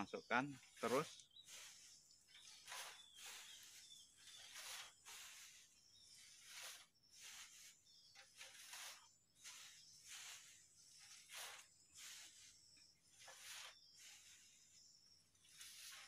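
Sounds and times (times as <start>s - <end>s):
dry wood shavings rustling: 0.0s - 16.0s.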